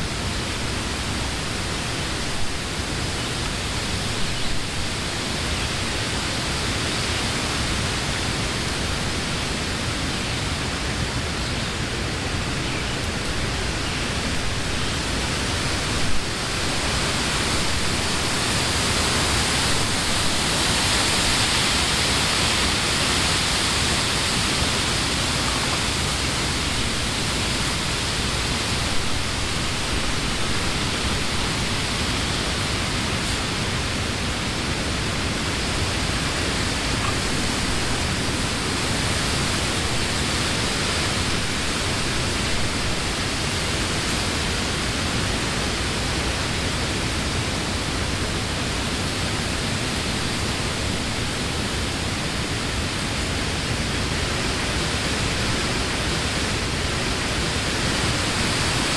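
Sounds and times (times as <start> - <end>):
wind rustling leaves: 0.0 - 58.9.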